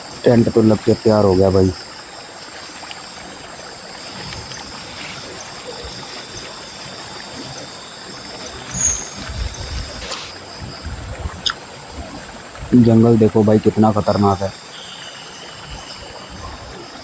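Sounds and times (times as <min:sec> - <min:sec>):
high-pitched insect calls: 0:00.0 - 0:17.0
running water hiss: 0:00.0 - 0:17.0.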